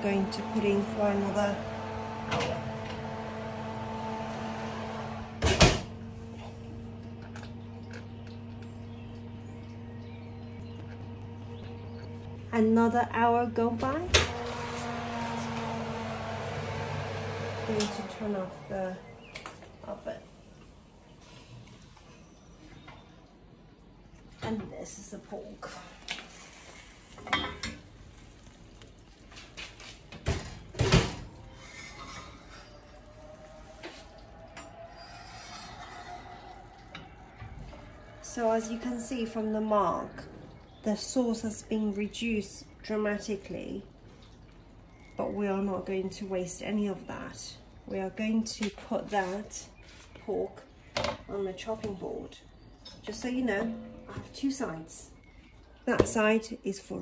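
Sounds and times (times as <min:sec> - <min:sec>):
steady low hum: 0:00.0 - 0:48.4, 0:50.1 - 0:56.2.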